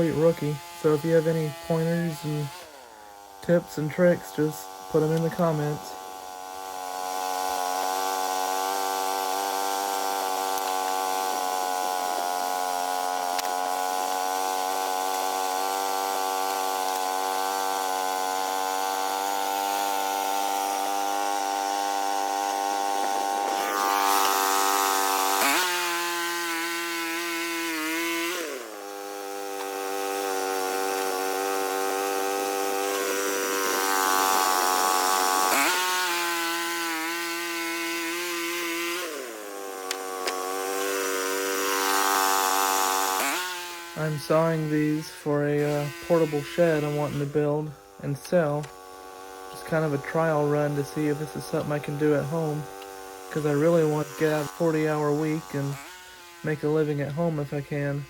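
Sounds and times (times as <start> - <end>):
saw blade rasping through wood: 0.0 - 58.0
sawmill engine running: 0.0 - 58.0.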